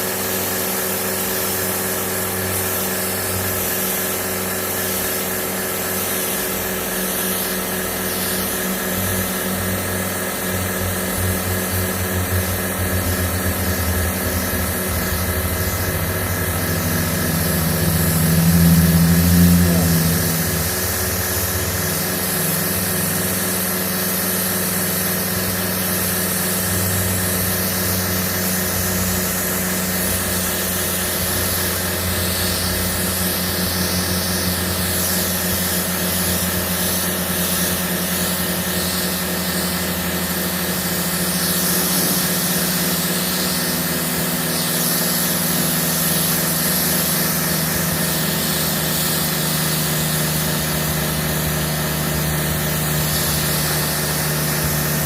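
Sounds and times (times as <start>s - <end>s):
pump motor humming: 0.0s - 55.0s
water spray hiss: 0.0s - 55.0s.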